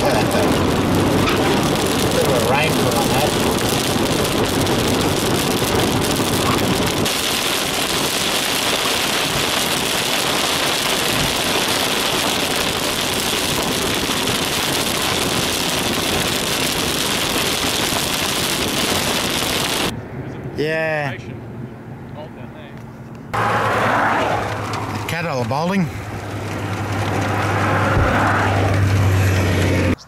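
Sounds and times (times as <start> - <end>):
tyres hissing on wet road: 0.0 - 19.9, 23.4 - 30.0
low car rumble: 0.0 - 30.0.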